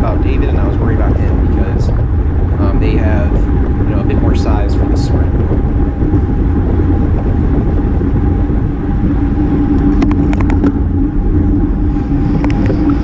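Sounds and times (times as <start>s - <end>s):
bike tyre noise on road: 0.0s - 13.0s
wind rushing over camera: 0.0s - 13.0s.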